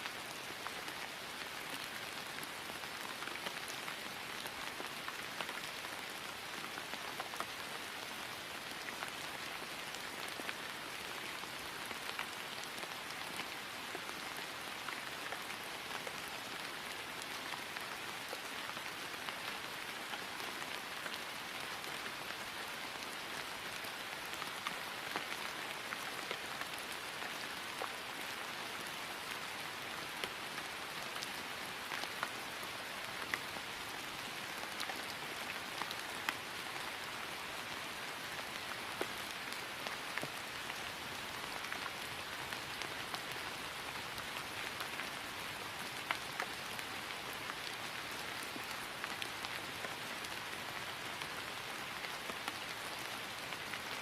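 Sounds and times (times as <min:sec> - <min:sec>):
rain falling on grass: 0:00.0 - 0:54.0.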